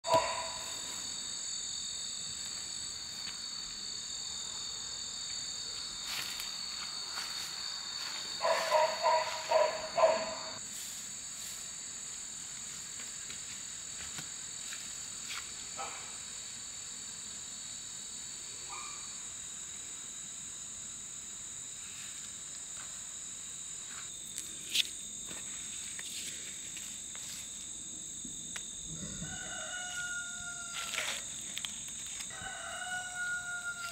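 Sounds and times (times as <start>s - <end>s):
insects droning: 0.0s - 33.9s.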